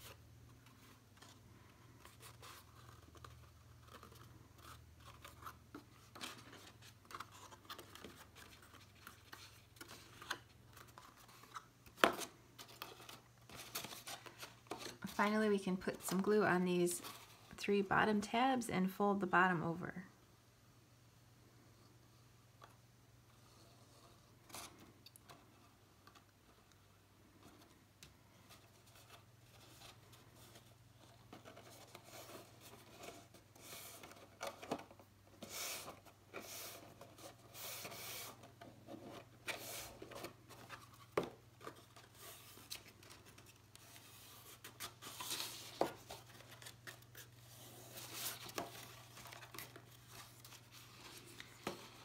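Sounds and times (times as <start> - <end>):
cardstock rustling and scraping: 0.0 - 16.4, 17.0 - 17.6, 23.4 - 52.0.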